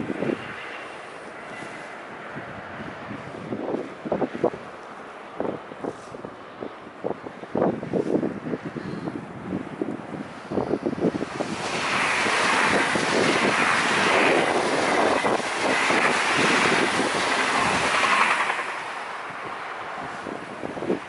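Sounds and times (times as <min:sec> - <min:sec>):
high-speed train passing: 0:00.0 - 0:21.0
wind buffeting microphone: 0:00.0 - 0:21.0.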